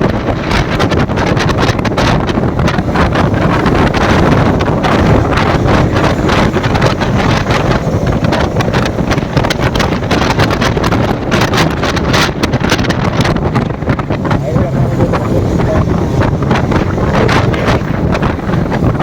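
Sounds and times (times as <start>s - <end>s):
road noise: 0.0s - 19.0s
wind buffeting microphone: 0.0s - 19.0s
motorcycle engine: 0.1s - 19.0s.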